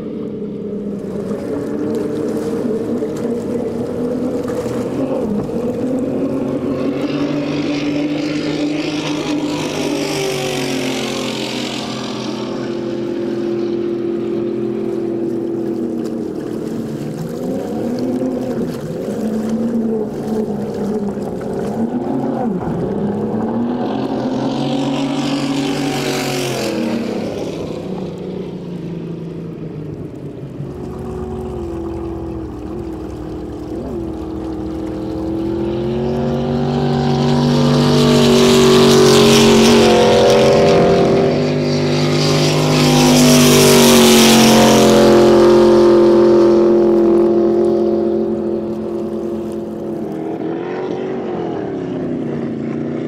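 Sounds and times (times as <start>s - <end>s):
speedboat engines passing: 0.0s - 53.0s.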